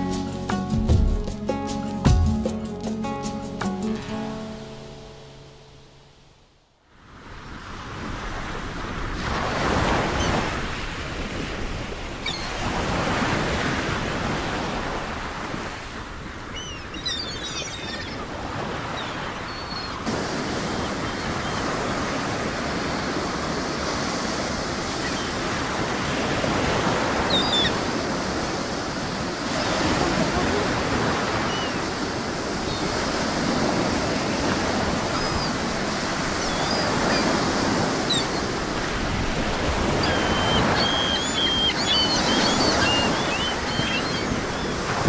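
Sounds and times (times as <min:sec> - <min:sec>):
surf breaking on beach: 0:07.1 - 0:45.0.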